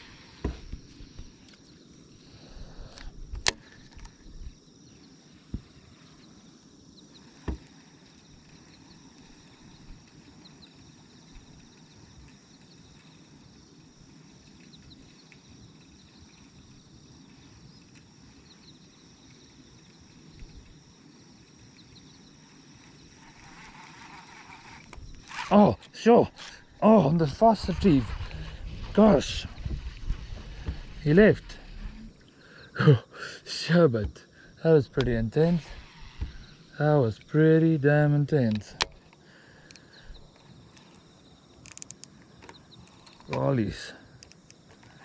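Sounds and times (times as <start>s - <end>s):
high insect chirring: 0.0s - 45.0s.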